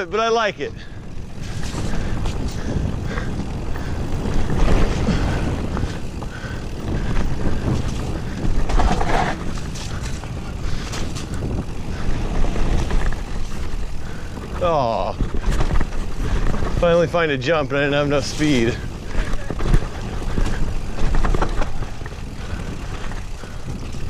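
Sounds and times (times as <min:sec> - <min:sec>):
bike clicking and knocking: 0:00.0 - 0:24.0
wind and tyres rumbling: 0:00.0 - 0:24.0.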